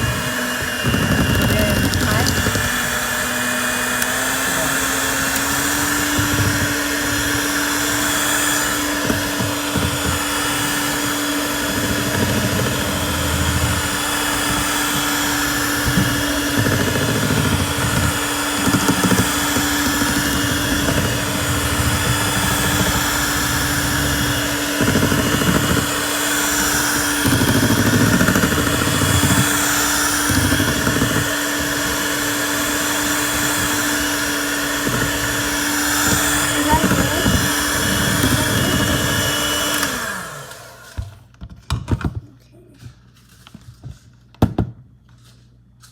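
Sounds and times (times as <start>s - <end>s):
electric mixer humming: 0.0s - 41.3s.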